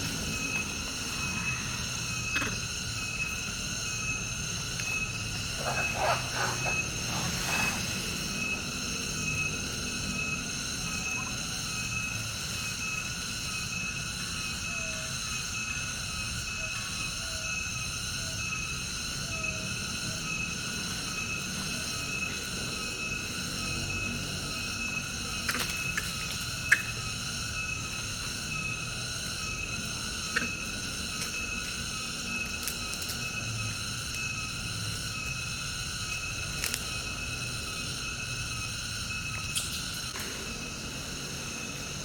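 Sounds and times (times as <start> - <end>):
insects chorus: 0.0 - 42.0
steady high-pitched drones: 0.0 - 42.0.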